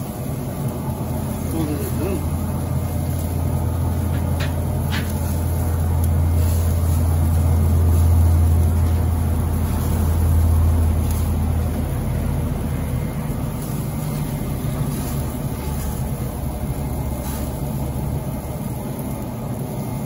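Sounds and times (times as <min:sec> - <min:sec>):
pellet grill humming: 0:00.0 - 0:20.0.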